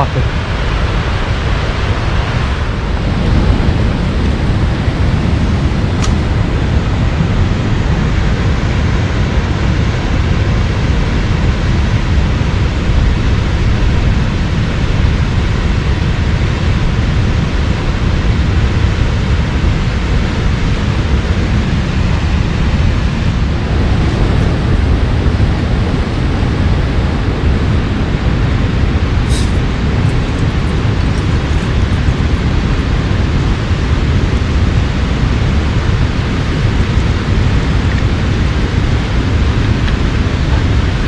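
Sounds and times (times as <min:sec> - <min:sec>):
waterfall roaring: 0:00.0 - 0:41.0.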